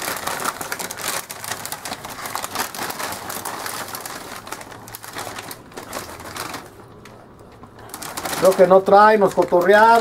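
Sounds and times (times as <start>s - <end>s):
dry snacks rustling: 0.0s - 10.0s
plastic bag crinkling: 0.0s - 10.0s.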